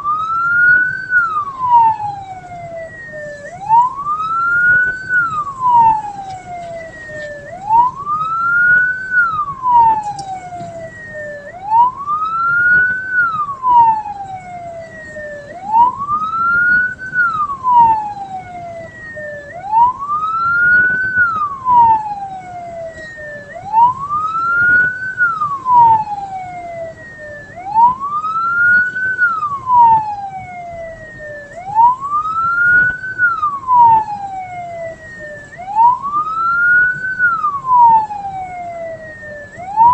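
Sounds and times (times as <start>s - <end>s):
low road rumble: 0.0s - 39.9s
vehicle siren wailing: 0.0s - 39.9s.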